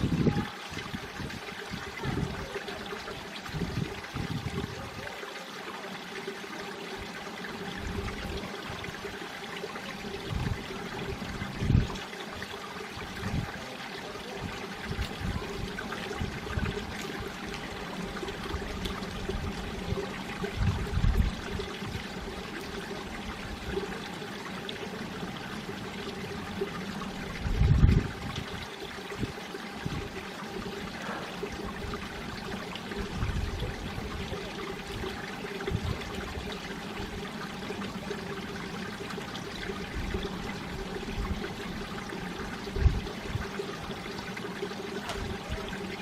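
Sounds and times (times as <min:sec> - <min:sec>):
stream flowing over rocks: 0:00.0 - 0:46.0.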